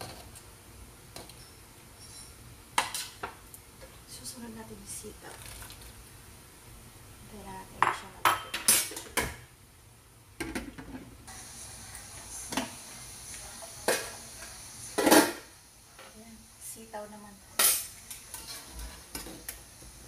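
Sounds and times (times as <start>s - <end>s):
water boiling: 0.0s - 20.0s.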